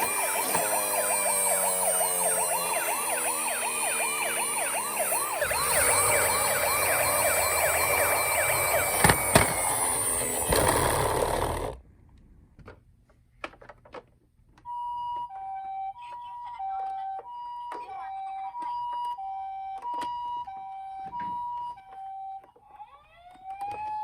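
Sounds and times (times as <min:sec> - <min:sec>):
toy ambulance sirens wailing: 0:00.0 - 0:11.8, 0:14.7 - 0:24.0.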